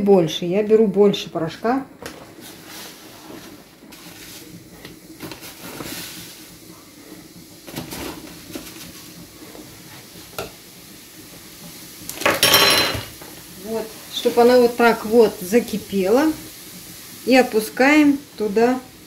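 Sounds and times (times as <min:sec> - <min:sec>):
powder fizzing in water: 0:02.1 - 0:12.4, 0:13.1 - 0:19.0.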